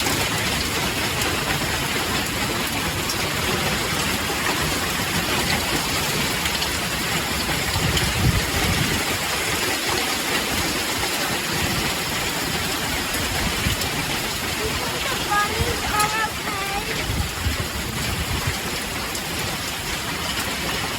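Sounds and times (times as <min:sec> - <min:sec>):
hailstones pelting a vehicle: 0:00.0 - 0:20.9.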